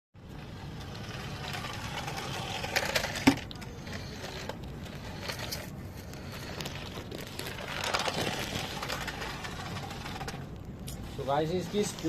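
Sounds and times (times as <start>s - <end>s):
small electric motor whirring: 0.3s - 12.0s.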